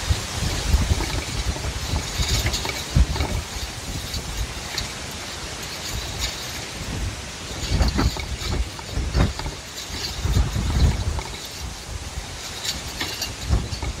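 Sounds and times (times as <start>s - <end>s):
wind blowing through forest: 0.0s - 14.0s.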